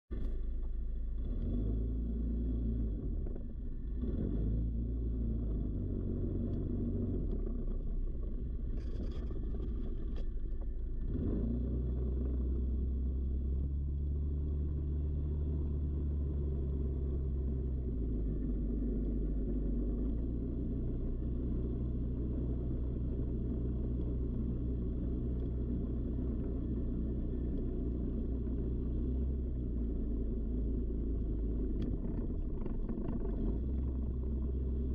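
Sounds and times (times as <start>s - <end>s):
engine running: 0.1s - 34.9s
wind: 0.1s - 34.9s.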